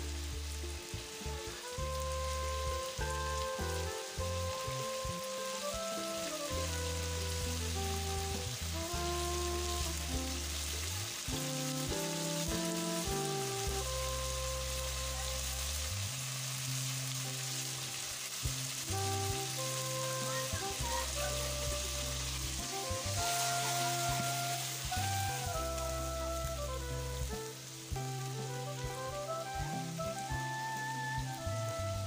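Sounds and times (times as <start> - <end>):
curry sizzling in a wok: 0.0 - 32.0
slow background music: 0.0 - 32.0.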